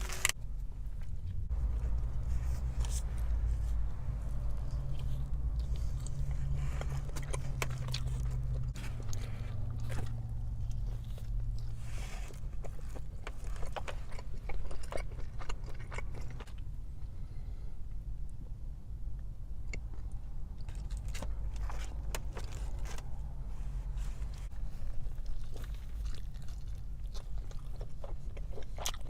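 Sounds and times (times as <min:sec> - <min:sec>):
steady low hum: 0:00.0 - 0:29.0
person chewing food: 0:00.1 - 0:17.2, 0:19.5 - 0:23.3, 0:24.0 - 0:29.0.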